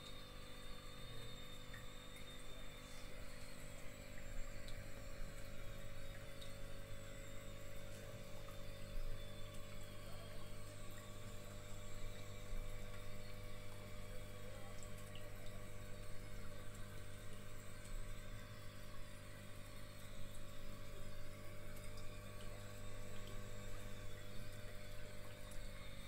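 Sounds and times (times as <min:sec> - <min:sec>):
aquarium pumps humming: 0:00.0 - 0:26.0.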